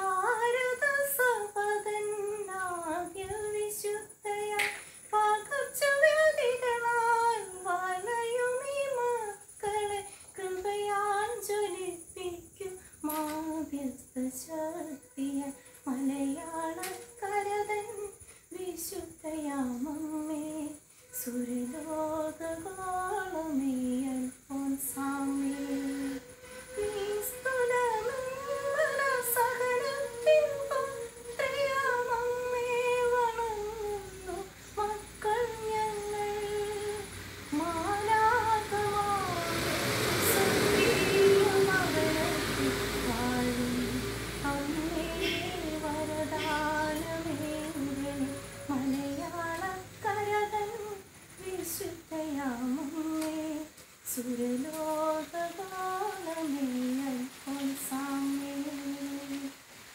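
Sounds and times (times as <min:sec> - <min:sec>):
woman singing solo: 0:00.0 - 0:59.6.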